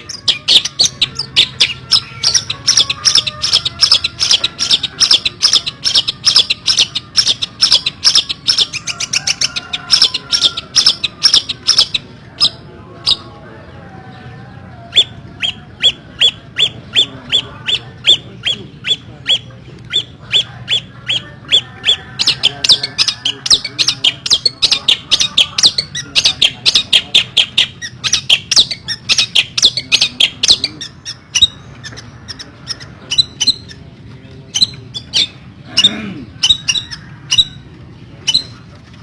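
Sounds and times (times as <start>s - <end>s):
shrike harsh chattering calls: 0.0s - 13.3s, 14.9s - 38.7s.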